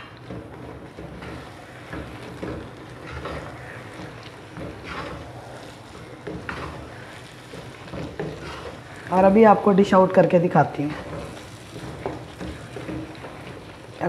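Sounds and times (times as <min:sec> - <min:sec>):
wooden spatula scraping a wok: 0:00.0 - 0:14.0.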